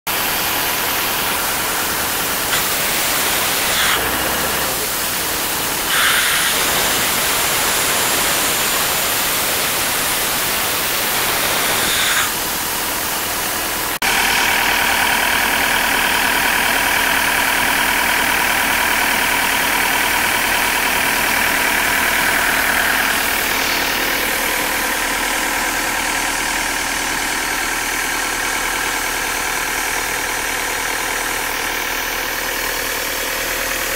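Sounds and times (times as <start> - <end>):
air compressor diesel engine running: 0.1 - 33.9.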